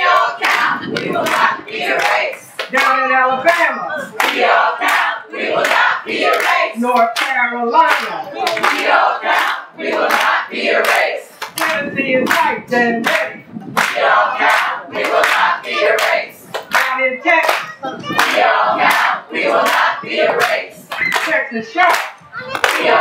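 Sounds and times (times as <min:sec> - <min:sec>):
group of people singing: 0:00.0 - 0:07.1, 0:08.2 - 0:23.0
hands clapping on a beat: 0:00.1 - 0:03.0, 0:03.6 - 0:23.0.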